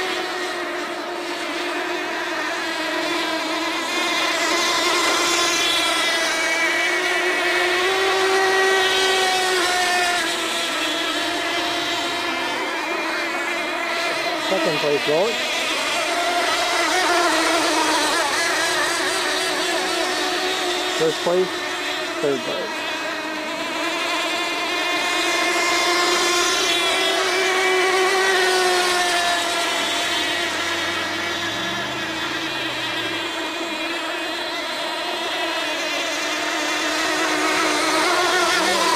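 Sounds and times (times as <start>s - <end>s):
model boat engines buzzing: 0.0s - 38.9s.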